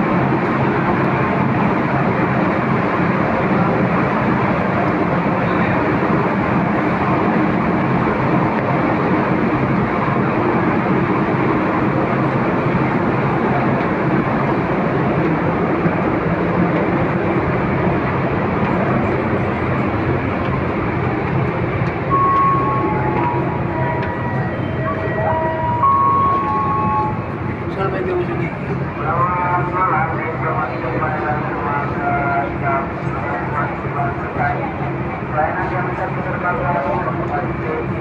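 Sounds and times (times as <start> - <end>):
ship engines droning: 0.0 - 38.0.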